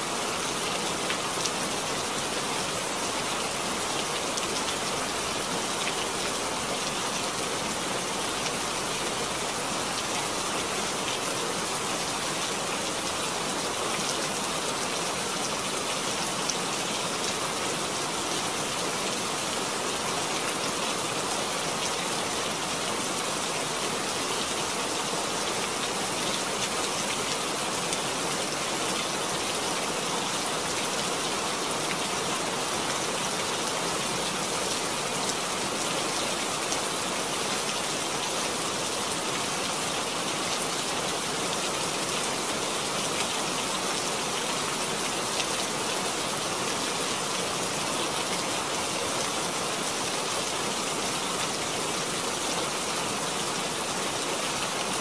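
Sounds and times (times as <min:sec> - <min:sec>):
steady rain on hard surface: 0:00.0 - 0:55.0.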